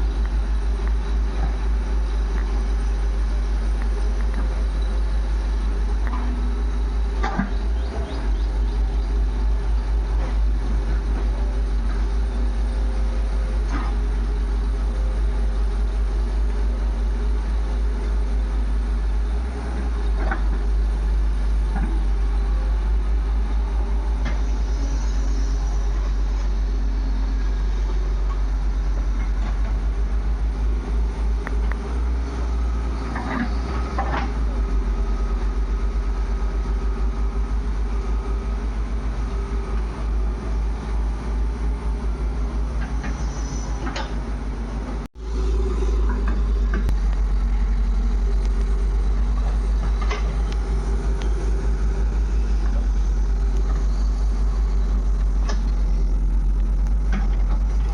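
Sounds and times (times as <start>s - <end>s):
heavy diesel engine throbbing: 0.0s - 57.9s.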